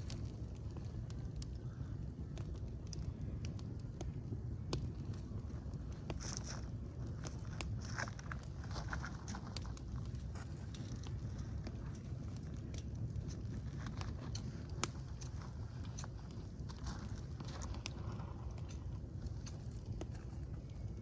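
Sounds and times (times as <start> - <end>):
fire crackling and popping: 0.0 - 21.0
low rumble: 0.0 - 21.0.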